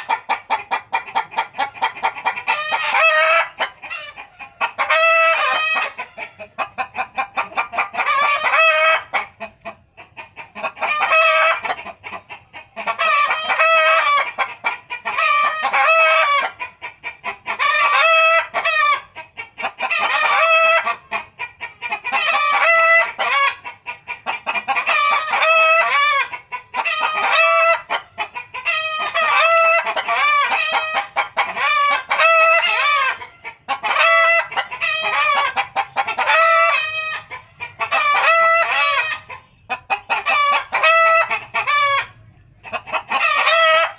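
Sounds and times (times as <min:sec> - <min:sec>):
chicken clucking: 0:00.0 - 0:43.9.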